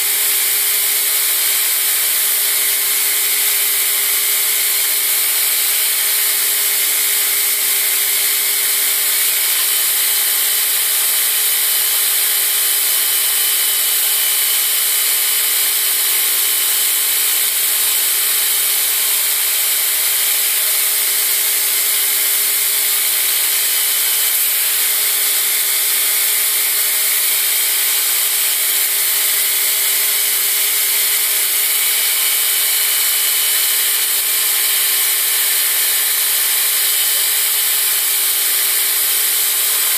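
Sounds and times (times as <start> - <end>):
belt grinder grinding steel: 0.0 - 39.9.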